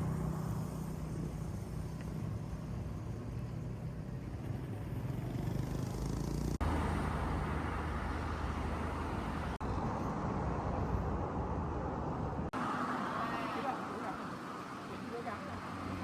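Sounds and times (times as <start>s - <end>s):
passing motor vehicles: 0.0s - 16.0s.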